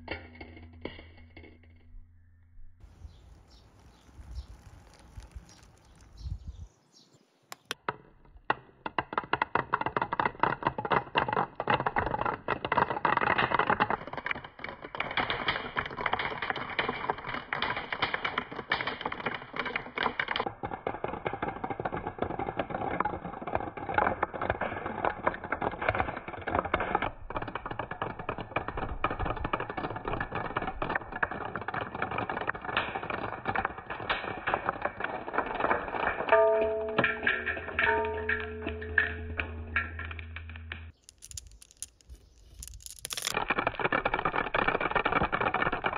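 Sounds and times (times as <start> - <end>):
balls clattering down wooden run: 2.8 - 6.4, 7.5 - 45.9.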